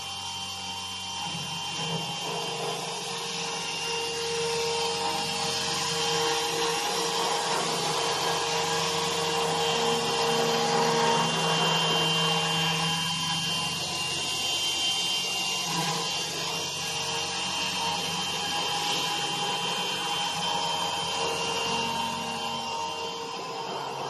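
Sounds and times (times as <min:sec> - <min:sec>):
router spindle whine: 0:00.0 - 0:24.0.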